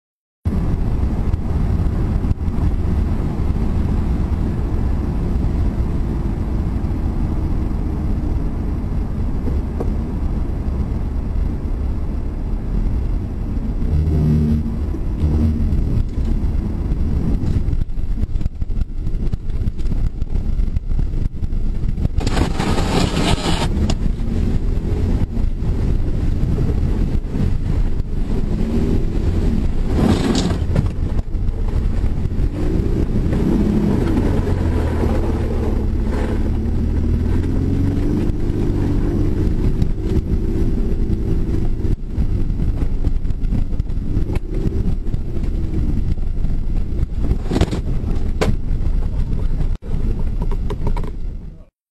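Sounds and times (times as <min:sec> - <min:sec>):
car road and wind noise: 0:00.4 - 0:51.8.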